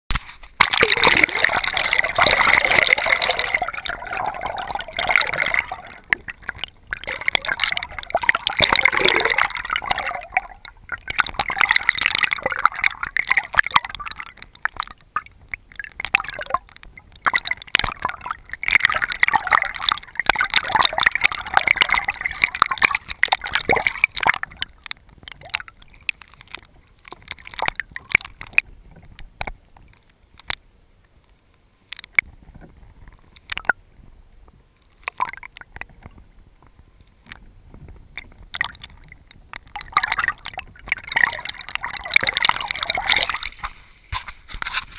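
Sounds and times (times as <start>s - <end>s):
small underwater clicks: 0.1s - 33.8s, 34.4s - 44.9s
underwater gurgling and bubbling: 0.6s - 29.7s, 35.1s - 44.0s.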